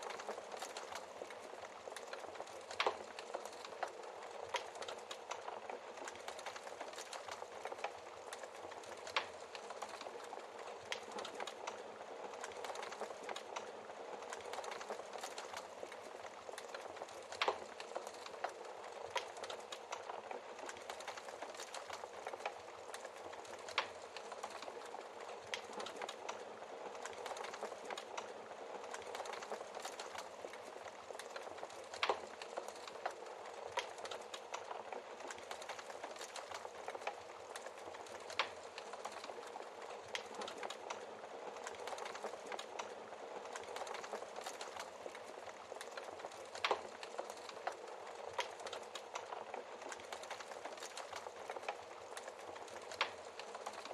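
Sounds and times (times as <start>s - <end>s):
loud fire snaps: 0.0s - 53.9s
wood fire crackling: 0.0s - 53.9s.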